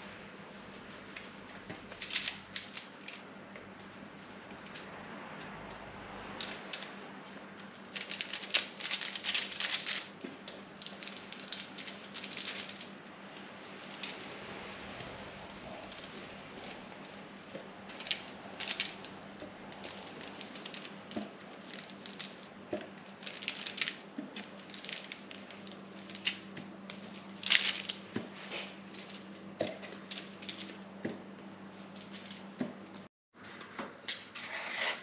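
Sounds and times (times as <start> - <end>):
steady low hum: 0.0 - 33.1.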